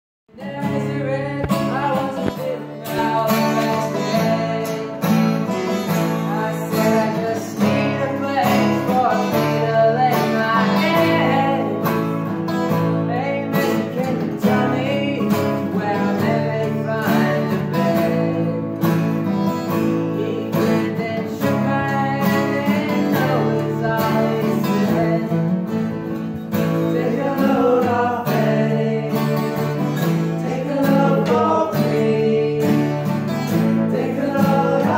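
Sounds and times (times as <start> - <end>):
acoustic guitars strummed: 0.3 - 34.9
man singing: 0.3 - 34.9.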